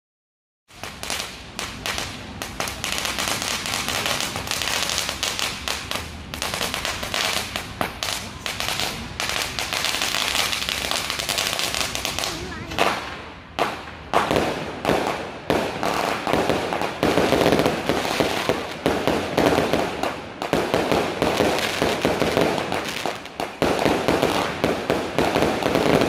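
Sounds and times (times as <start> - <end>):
fireworks crackling: 0.7 - 26.0.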